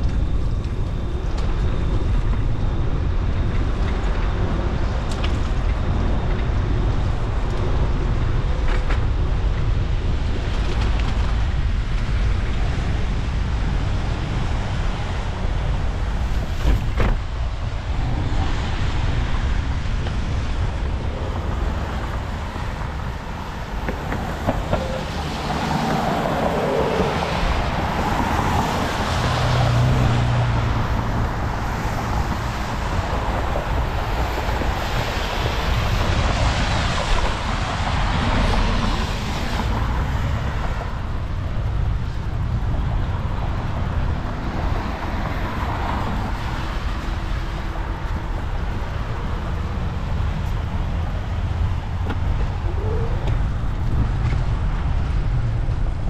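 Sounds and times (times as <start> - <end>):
road traffic passing: 0.0 - 56.0
wind rumble on microphone: 0.0 - 56.0.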